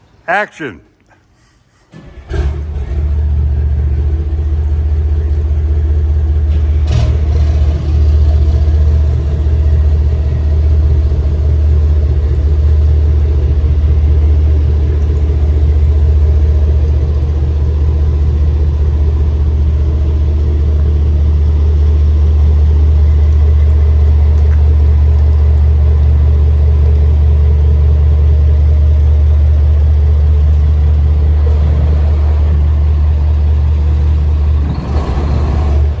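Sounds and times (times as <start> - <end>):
boat engines idling: 1.6 - 36.0.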